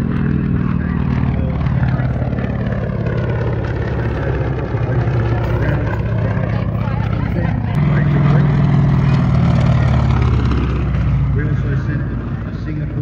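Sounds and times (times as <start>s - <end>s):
faint voices: 0.0s - 13.0s
piston aircraft engine running: 0.0s - 13.0s.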